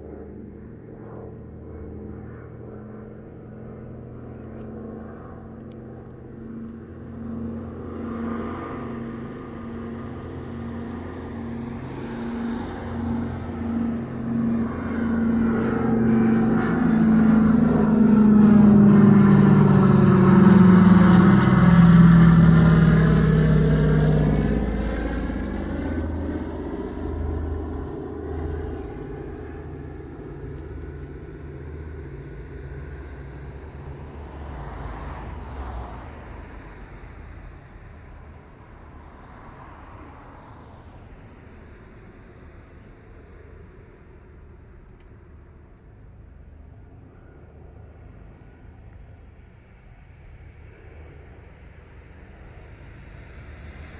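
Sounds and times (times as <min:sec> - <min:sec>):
propeller plane engines droning: 0:00.0 - 0:53.9.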